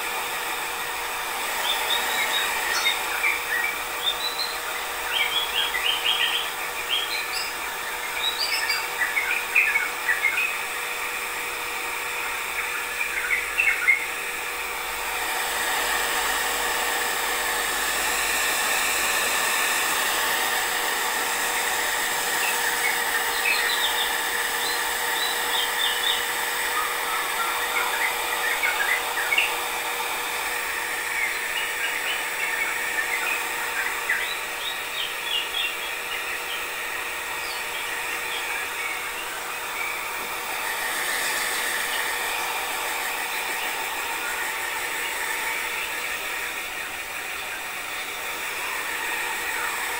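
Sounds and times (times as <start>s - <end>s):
hair dryer running: 0.0s - 49.9s
small birds chirping: 1.6s - 10.6s, 12.4s - 14.2s, 19.9s - 29.9s, 30.5s - 49.9s.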